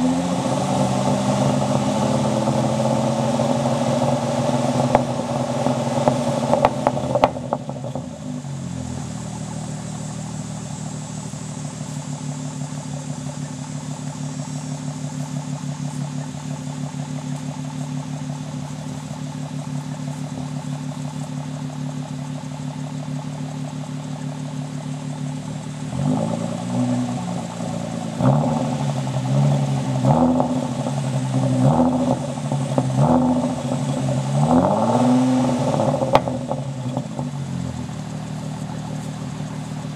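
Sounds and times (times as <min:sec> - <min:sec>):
car exhaust idling: 0:00.0 - 0:39.9
engine revving in throttle blips: 0:00.0 - 0:39.9.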